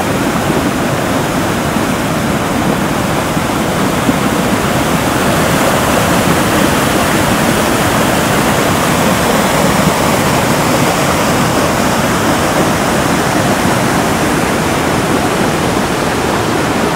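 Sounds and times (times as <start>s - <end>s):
water rushing over a weir: 0.0s - 16.9s.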